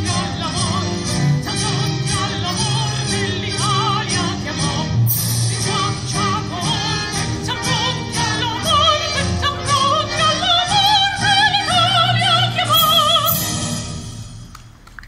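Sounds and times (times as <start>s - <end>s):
operatic singing with vibrato: 0.0s - 14.4s
instrumental accompaniment: 0.0s - 14.5s.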